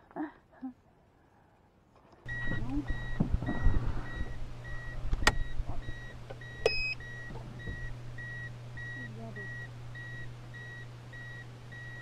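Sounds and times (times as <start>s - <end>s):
low electrical hum: 0.0s - 12.0s
electronic warning beep: 2.3s - 12.0s.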